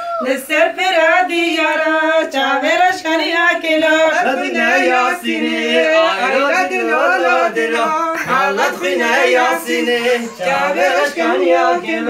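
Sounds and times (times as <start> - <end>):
group singing folk song: 0.4 - 12.0.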